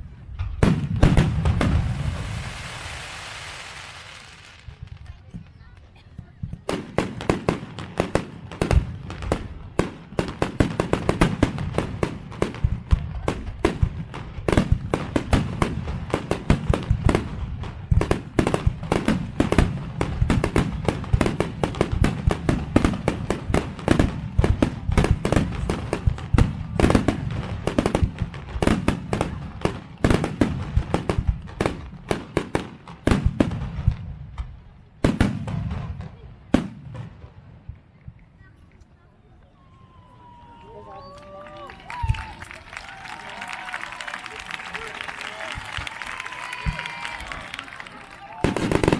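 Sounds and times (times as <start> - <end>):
fireworks crackling: 0.0 - 38.5, 41.7 - 48.9.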